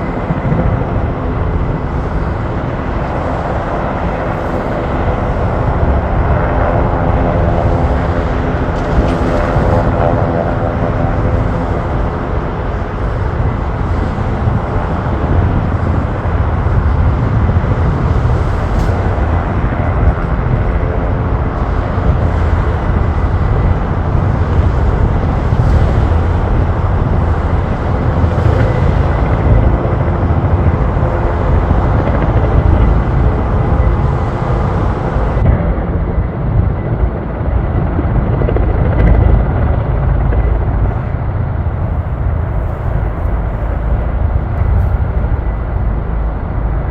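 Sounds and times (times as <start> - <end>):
helicopter rotor and turbine: 0.0 - 46.9.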